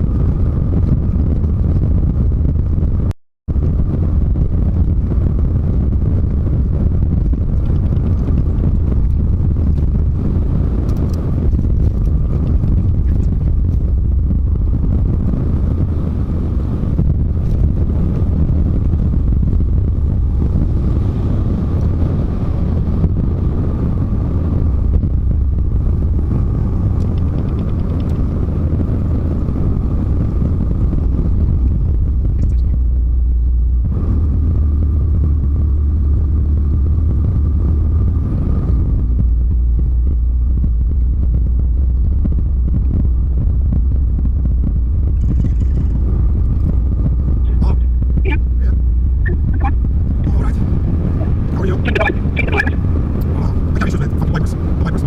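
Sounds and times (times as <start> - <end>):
road noise: 0.0 - 55.0
truck engine rumble: 0.0 - 55.0.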